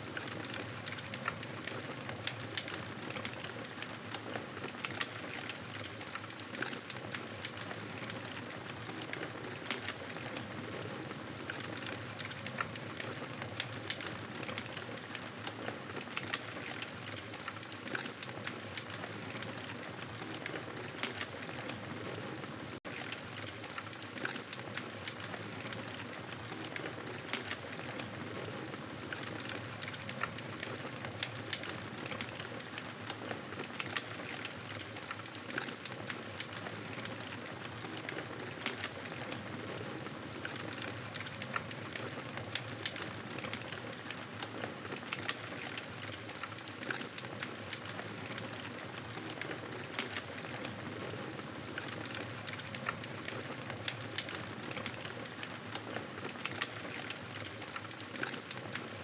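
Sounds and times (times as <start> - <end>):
campfire crackling: 0.1 - 22.0, 22.8 - 59.0.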